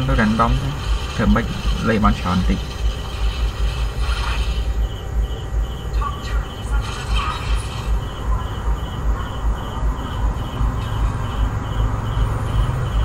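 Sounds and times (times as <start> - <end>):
cricket-like chirp: 0.0 - 13.0.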